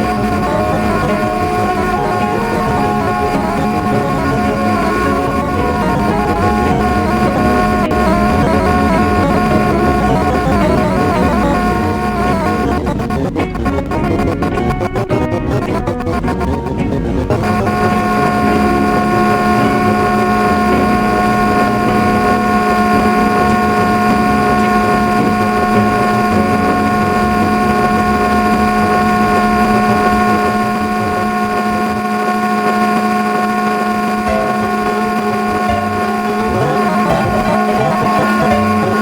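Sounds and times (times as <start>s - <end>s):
ceiling fan humming: 0.0s - 39.0s.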